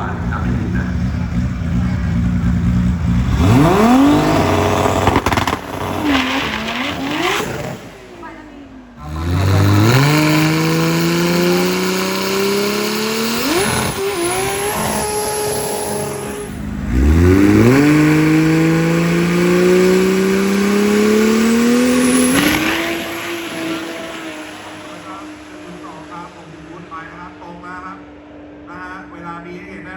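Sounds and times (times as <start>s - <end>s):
drag race cars accelerating: 0.0s - 29.9s.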